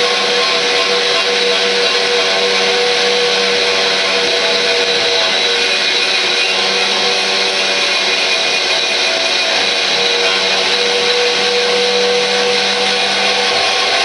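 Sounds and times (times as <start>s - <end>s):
power tool motor whine: 0.0s - 14.0s.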